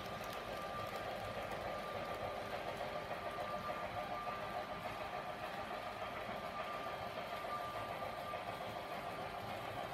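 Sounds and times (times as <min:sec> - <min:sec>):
model train motor whirring: 0:00.0 - 0:09.9
wheels rolling on rails: 0:00.0 - 0:09.9.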